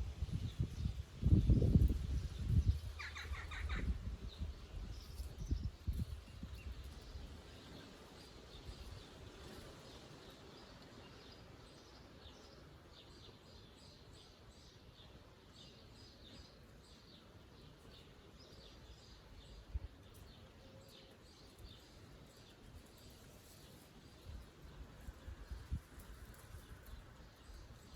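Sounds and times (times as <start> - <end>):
faint songbirds chirping: 0.0 - 27.9.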